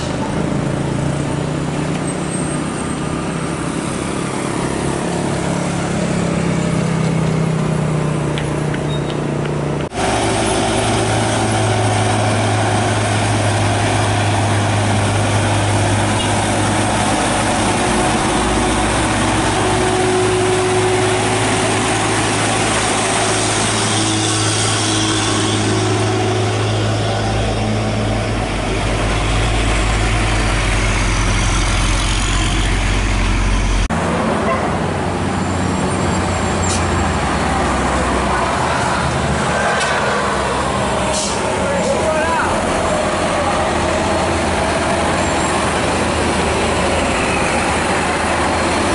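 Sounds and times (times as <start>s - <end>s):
diesel truck engines passing: 0.0s - 48.9s.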